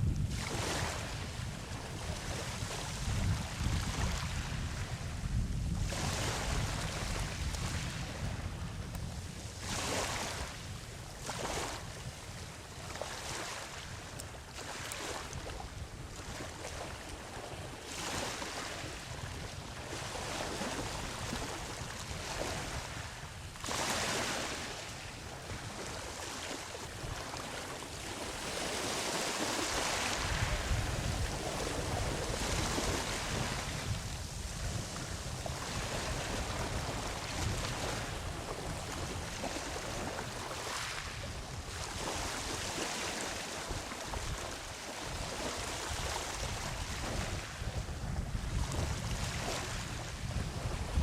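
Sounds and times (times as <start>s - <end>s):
ocean waves breaking on beach: 0.0s - 51.0s
wind rumble on microphone: 0.0s - 51.0s.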